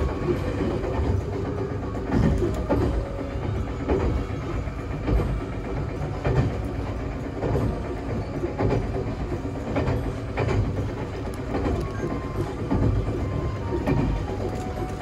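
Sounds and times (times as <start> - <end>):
train rumbling: 0.0 - 15.0
wheels clacking over rail joints: 0.0 - 15.0.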